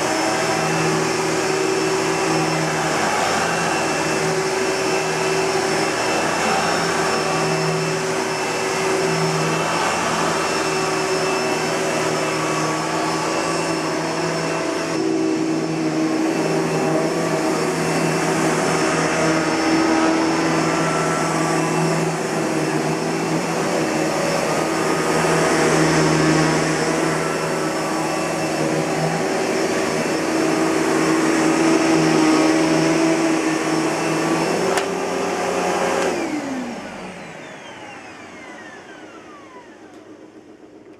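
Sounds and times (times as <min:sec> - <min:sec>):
vacuum cleaner motor running: 0:00.0 - 0:40.9.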